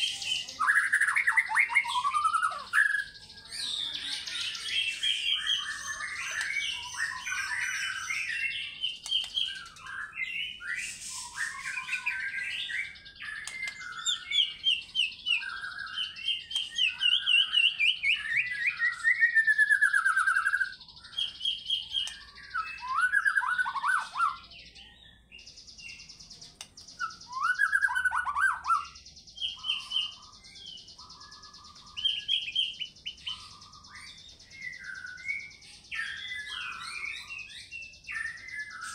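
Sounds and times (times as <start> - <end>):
bird singing whistled song: 0.0 - 38.9.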